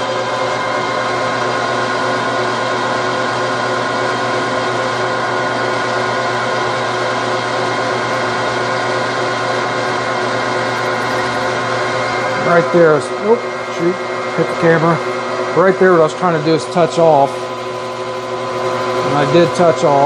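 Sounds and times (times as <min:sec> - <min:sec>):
metal lathe gear whine: 0:00.0 - 0:20.0.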